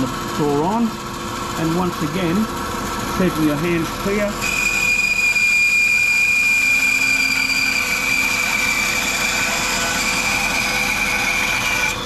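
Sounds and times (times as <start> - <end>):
bandsaw whining: 0.0 - 12.0
motor hum: 0.0 - 12.0.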